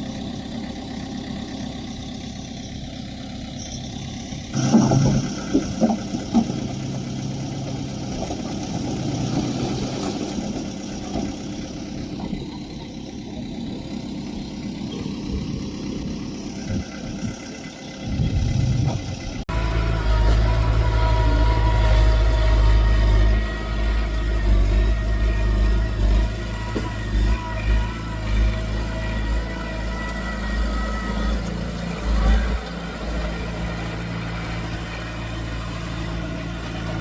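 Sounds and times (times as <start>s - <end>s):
heavy machinery diesel engine: 0.0s - 37.0s.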